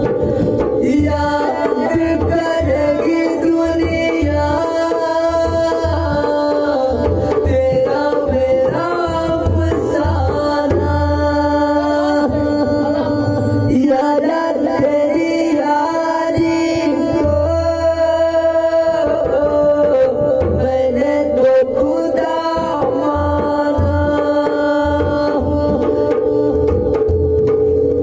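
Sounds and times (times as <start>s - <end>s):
man singing: 0.0s - 27.1s
hand drum rhythm: 0.0s - 28.0s.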